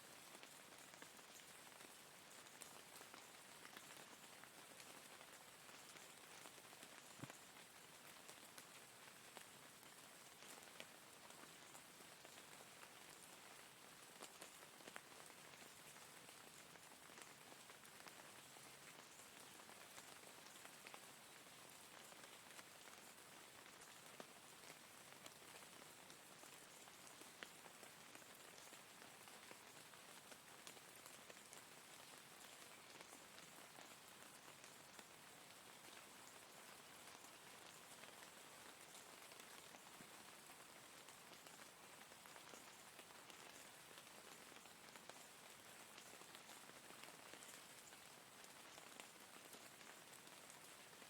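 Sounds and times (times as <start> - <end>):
faint rain hiss: 0.0 - 51.0
raindrops ticking: 0.3 - 13.3, 14.2 - 51.0.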